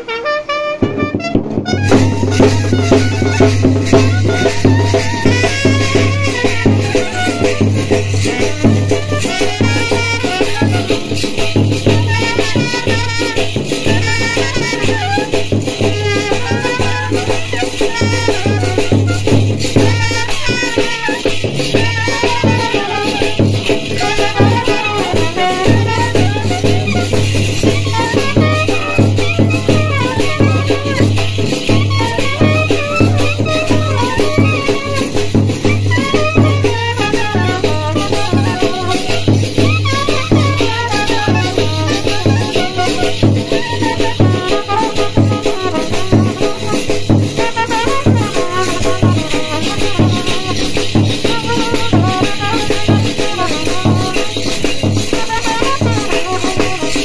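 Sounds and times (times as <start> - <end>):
clarinet melody: 0.0 - 57.0
rattling percussion beat: 0.0 - 57.0
trumpets playing: 0.0 - 57.0.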